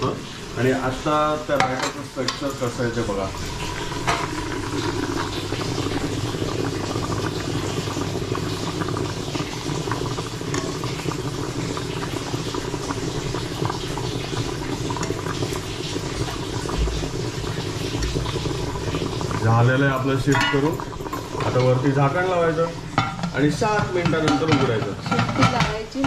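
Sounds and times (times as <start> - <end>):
water boiling with bubbling: 0.0 - 26.0.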